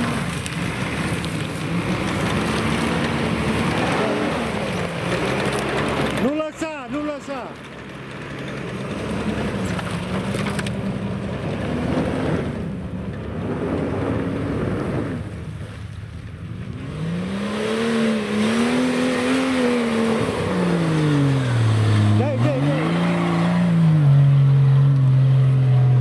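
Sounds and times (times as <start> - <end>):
off-road engines revving: 0.0 - 26.0.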